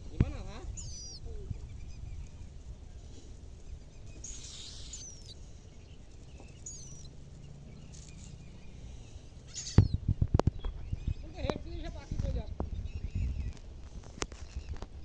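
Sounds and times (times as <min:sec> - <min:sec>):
low outdoor rumble: 0:00.0 - 0:15.0
high curving bird chirps: 0:00.4 - 0:13.6.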